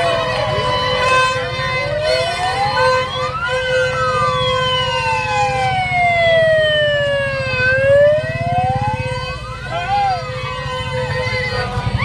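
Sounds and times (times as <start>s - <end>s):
wailing siren: 0.0s - 12.0s.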